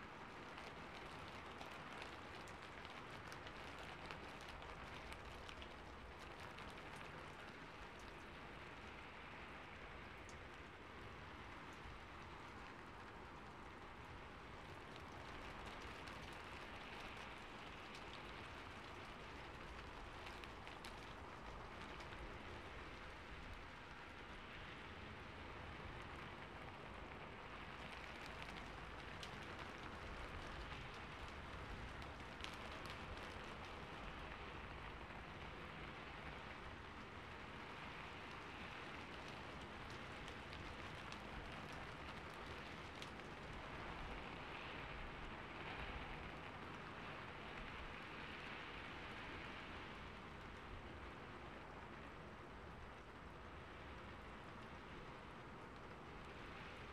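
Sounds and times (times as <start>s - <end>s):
faint steady rain: 0.0s - 56.9s
raindrop ticks: 0.0s - 56.9s.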